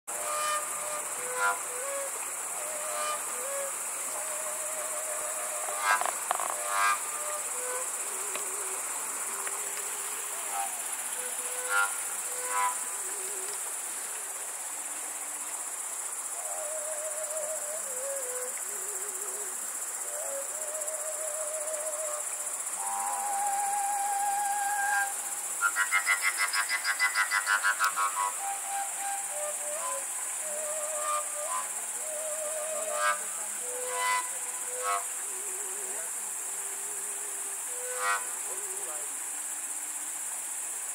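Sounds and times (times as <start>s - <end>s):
shepherd's flute melody: 0.1s - 13.7s, 16.3s - 39.1s
crickets chirring: 0.1s - 40.9s.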